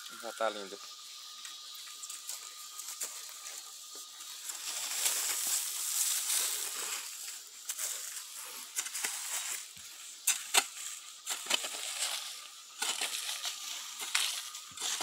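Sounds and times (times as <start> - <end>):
faint high whine: 0.0 - 15.0
weeds rustling and scraping on dirt: 0.0 - 15.0
small crackles: 1.3 - 15.0.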